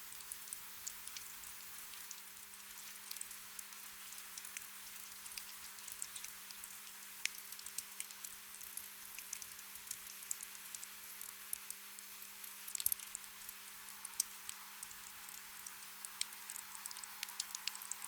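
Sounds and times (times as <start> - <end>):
gentle rain hiss: 0.0 - 18.0
raindrops ticking: 0.2 - 18.0.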